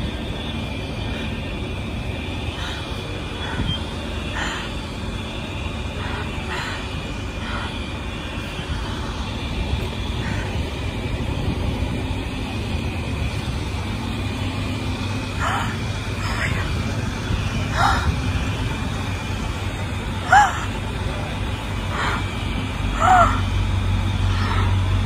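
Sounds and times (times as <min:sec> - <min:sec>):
steady low street rumble: 0:00.0 - 0:25.0.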